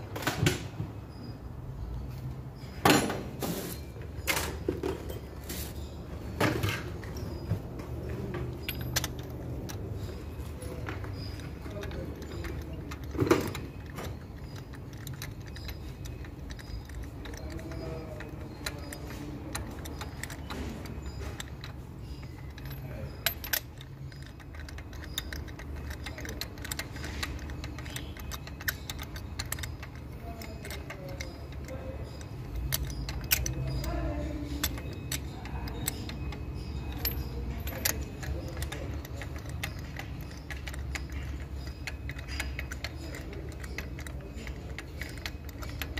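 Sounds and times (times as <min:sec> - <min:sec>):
socket tool clicking on metal: 0:08.3 - 0:45.9.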